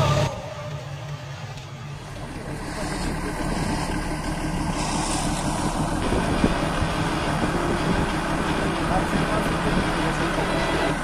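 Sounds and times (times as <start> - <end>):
engine rough rumble: 0.0 - 11.0.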